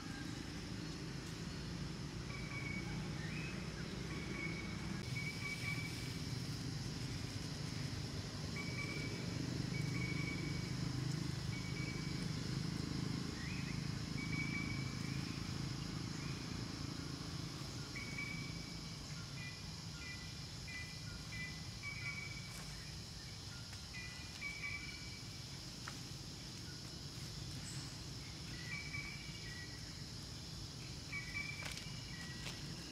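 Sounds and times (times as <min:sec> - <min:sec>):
high insect drone: 0:00.0 - 0:32.9
low continuous rumble: 0:00.0 - 0:32.9.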